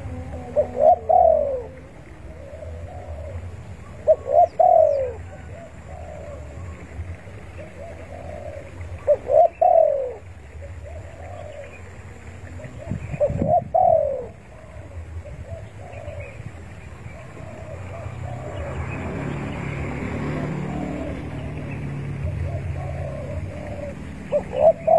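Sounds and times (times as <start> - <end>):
dove cooing: 0.0 - 24.9.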